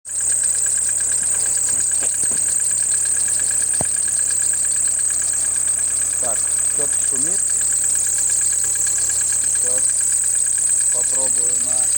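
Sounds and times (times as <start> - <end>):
car engine idling: 0.1 - 11.9.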